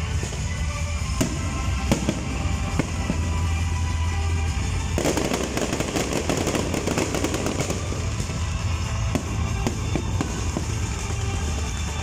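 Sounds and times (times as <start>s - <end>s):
background music: 0.0s - 12.0s
fireworks crackling: 0.0s - 12.0s.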